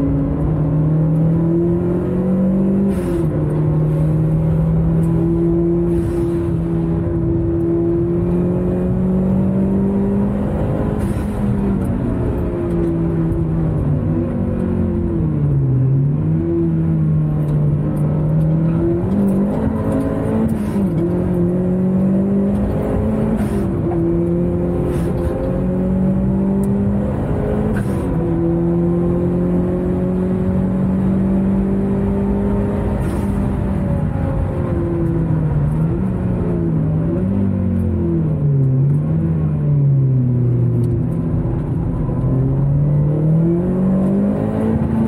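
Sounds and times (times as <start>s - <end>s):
car engine accelerating: 0.0s - 45.0s.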